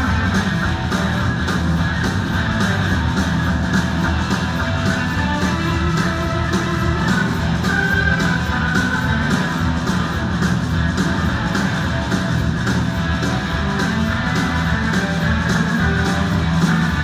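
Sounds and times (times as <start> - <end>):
bass: 0.0 - 17.0
drums with cymbal beat: 0.0 - 17.0
electric guitar: 0.0 - 17.0
keyboards: 0.0 - 17.0.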